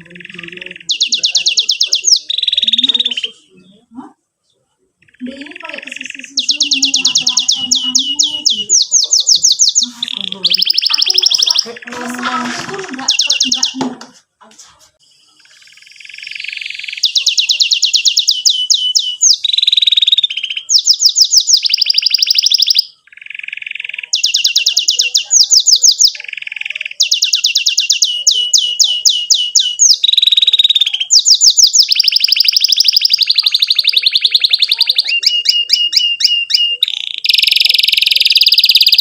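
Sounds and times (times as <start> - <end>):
canary singing trills: 0.0 - 14.0, 14.9 - 39.0.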